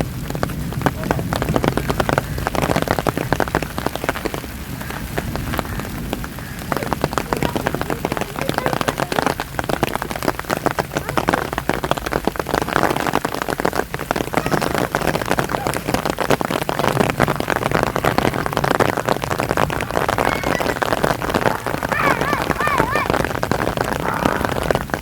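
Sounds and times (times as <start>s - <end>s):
heavy rain drops tapping: 0.0s - 25.0s.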